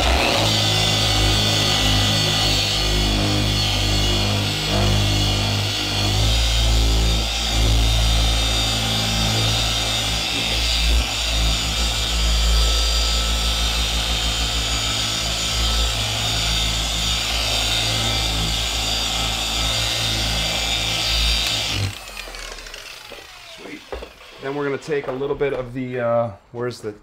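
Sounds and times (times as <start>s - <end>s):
machine polisher running: 0.0s - 25.4s.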